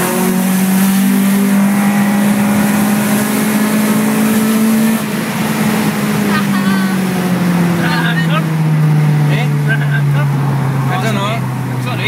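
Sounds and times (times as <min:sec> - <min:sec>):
car engine revving high: 0:00.0 - 0:12.0
road and wind noise: 0:00.0 - 0:12.0.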